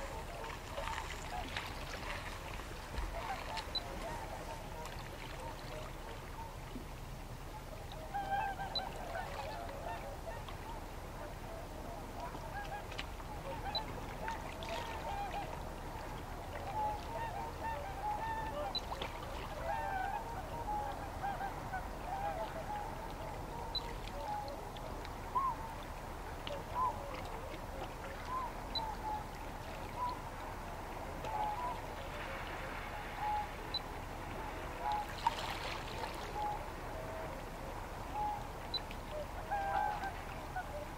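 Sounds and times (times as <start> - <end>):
waterfowl calling: 0.0 - 6.6, 7.5 - 40.9.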